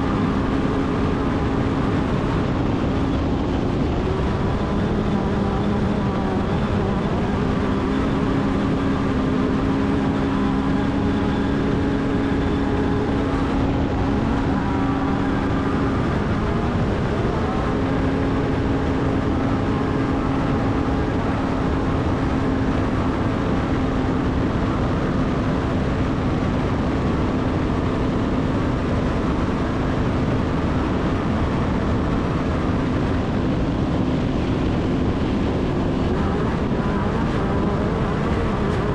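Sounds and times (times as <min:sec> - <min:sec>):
driving noise: 0:00.0 - 0:38.9
race vehicle engine at high revs: 0:00.0 - 0:38.9.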